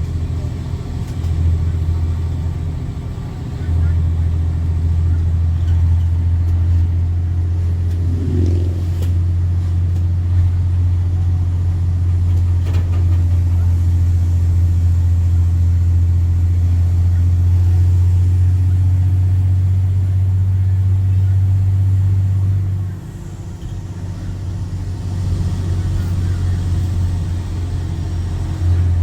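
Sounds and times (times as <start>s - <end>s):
diesel bus engine drone: 0.0s - 29.0s.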